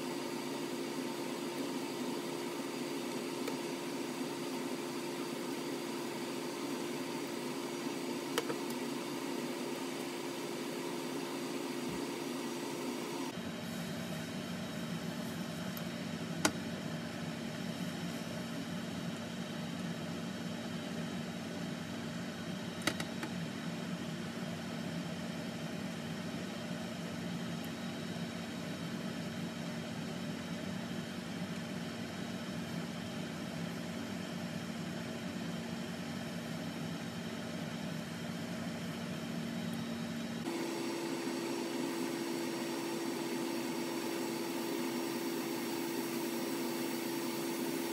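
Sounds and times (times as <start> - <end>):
kitchen fan humming: 0.0 - 19.8, 22.5 - 47.9.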